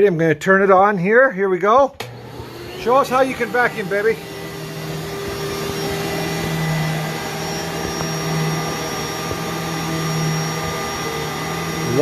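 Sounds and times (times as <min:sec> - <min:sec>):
vacuum cleaner running on carpet: 0:02.0 - 0:12.0.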